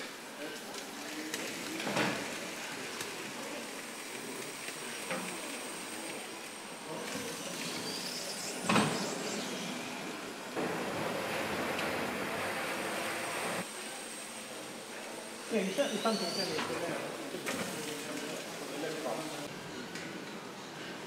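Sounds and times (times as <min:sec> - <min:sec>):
rushes of steam: 0:00.0 - 0:19.5
steam hissing: 0:00.0 - 0:19.5.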